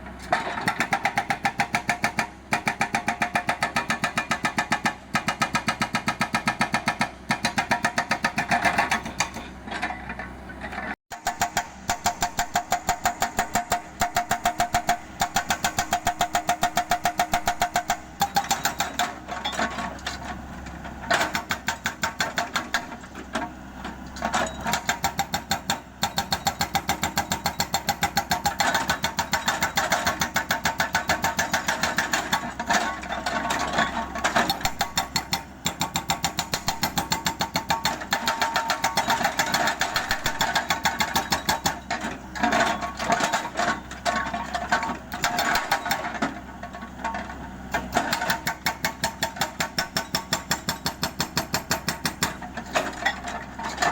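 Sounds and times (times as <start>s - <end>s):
engine running under load: 0.0s - 53.9s
hydraulic breaker hammering concrete: 0.5s - 9.5s, 11.1s - 20.2s, 20.9s - 23.3s, 24.2s - 53.9s.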